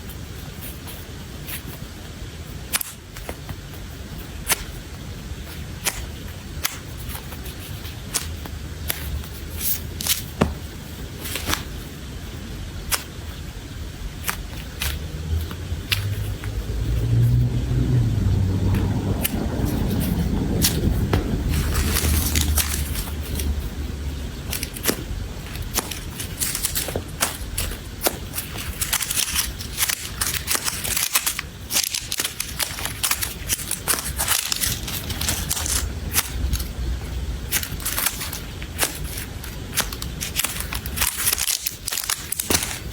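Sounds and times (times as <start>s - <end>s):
crackling and scraping: 2.7s - 42.9s.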